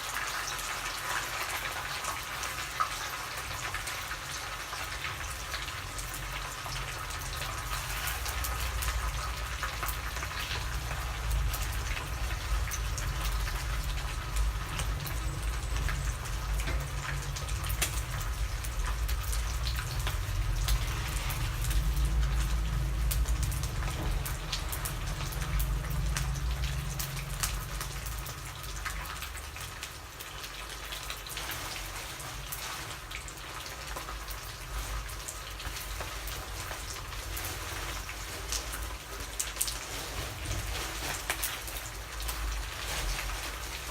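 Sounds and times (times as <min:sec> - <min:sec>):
fish sizzling in hot oil: 0:00.0 - 0:43.9.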